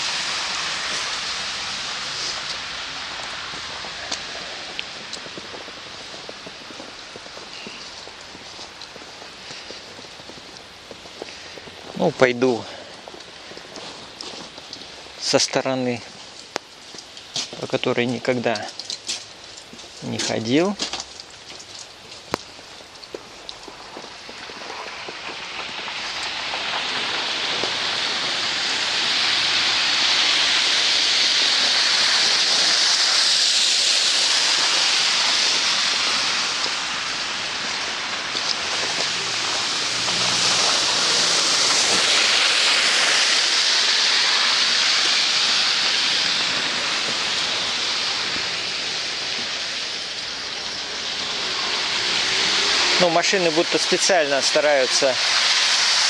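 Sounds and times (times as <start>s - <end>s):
tyres hissing through wet slush: 0.0s - 56.0s.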